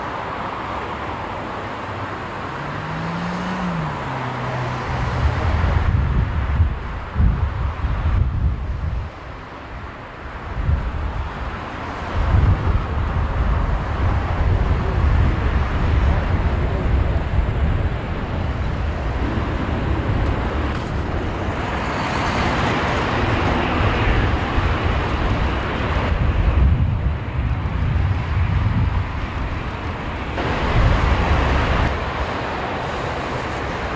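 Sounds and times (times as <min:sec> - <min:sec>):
jet engines roaring: 0:00.0 - 0:33.9
wind rumble on microphone: 0:02.4 - 0:33.9.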